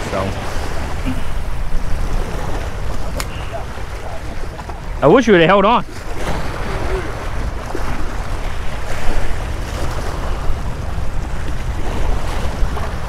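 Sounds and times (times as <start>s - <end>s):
waves splashing against rocks: 0.0s - 13.0s
wind buffeting microphone: 0.0s - 13.0s.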